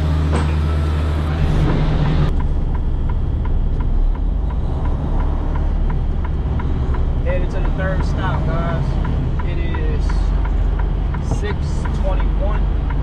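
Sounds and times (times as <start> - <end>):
diesel engine droning: 0.0 - 13.0
turn signal clicking: 2.3 - 13.0.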